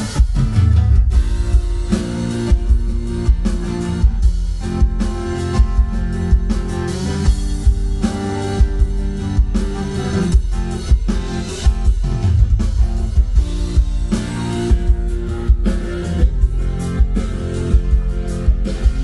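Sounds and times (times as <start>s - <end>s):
bass: 0.0s - 19.0s
drum kit beat: 0.0s - 19.0s
electric guitar: 0.0s - 19.0s.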